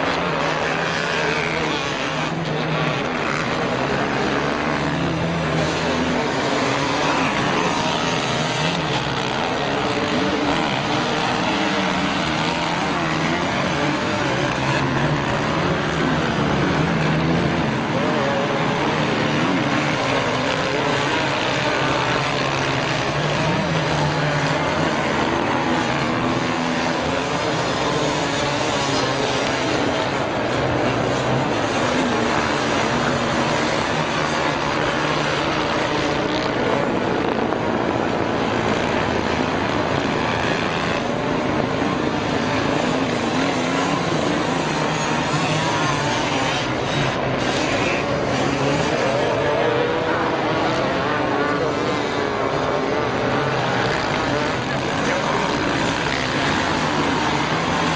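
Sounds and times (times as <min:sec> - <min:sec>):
motorcycle engines droning: 0:00.0 - 0:57.9.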